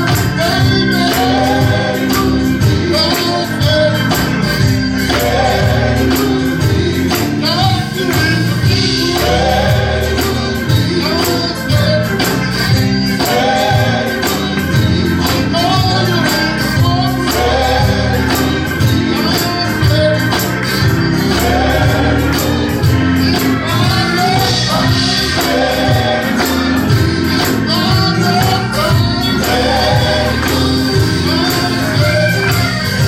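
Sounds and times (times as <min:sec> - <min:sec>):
band with bass line: 0:00.0 - 0:33.0
choir singing: 0:00.0 - 0:33.0
tambourine shaking: 0:00.0 - 0:33.0.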